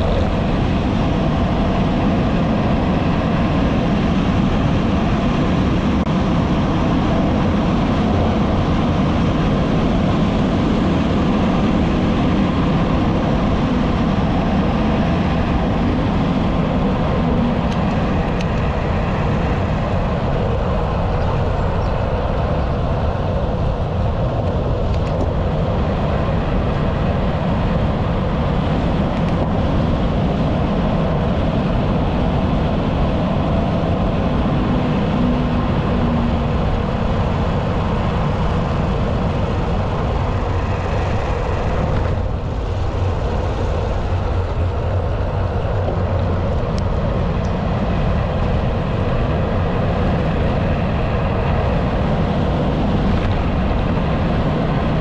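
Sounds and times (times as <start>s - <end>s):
road noise from tyres: 0.0s - 55.0s
wind noise on microphone: 0.0s - 55.0s.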